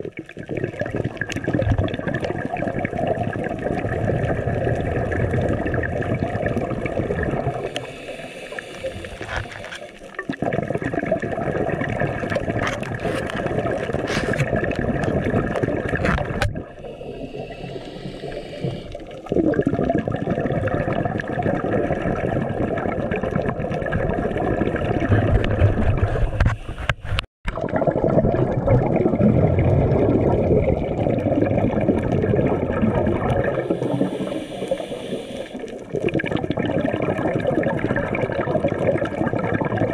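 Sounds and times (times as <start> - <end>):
underwater bubbling rush: 0.0 - 39.9.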